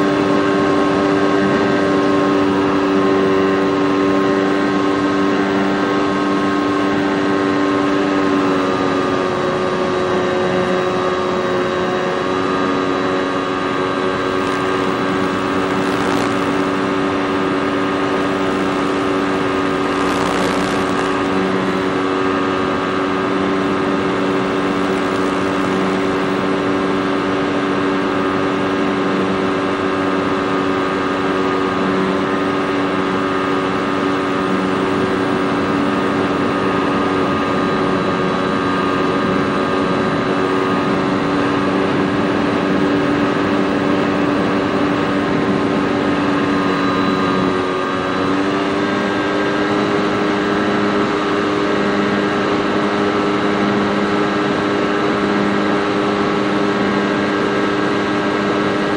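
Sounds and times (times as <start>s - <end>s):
model airplane motor and propeller: 0.0s - 58.9s.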